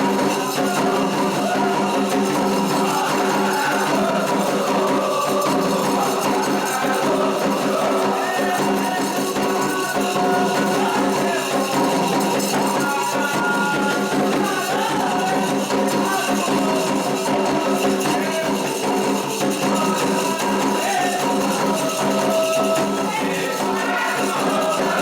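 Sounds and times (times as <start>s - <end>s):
rhythmic percussion: 0.0s - 25.0s
shaken jingling rattle: 0.0s - 25.0s
voices singing a chant: 0.0s - 25.0s.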